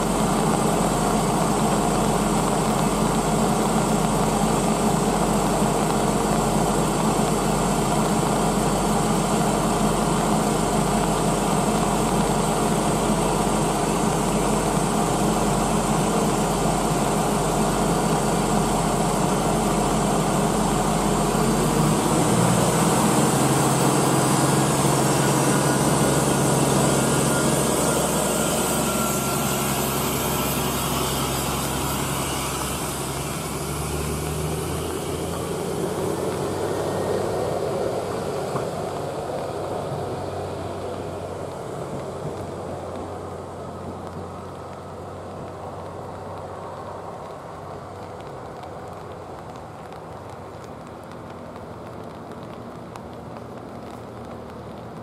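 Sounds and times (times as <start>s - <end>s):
engine idling: 0.0s - 51.1s.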